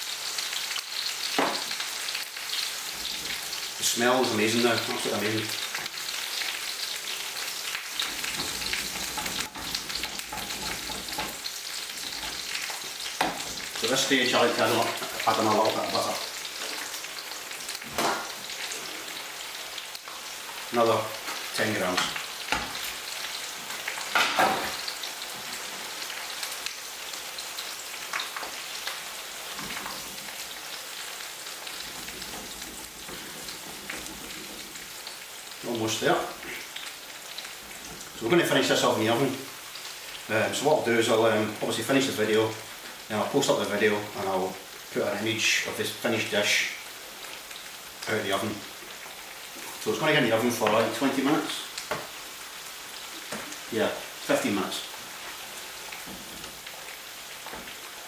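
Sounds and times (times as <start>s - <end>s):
sauce sizzling in a hot pan: 0.0s - 58.0s.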